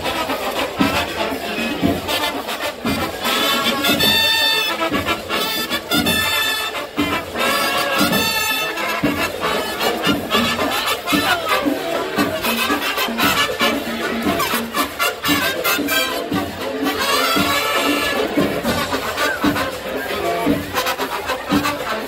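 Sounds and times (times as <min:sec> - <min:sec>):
marching band drum beat: 0:00.0 - 0:22.0
trumpets and trombones: 0:00.0 - 0:22.0.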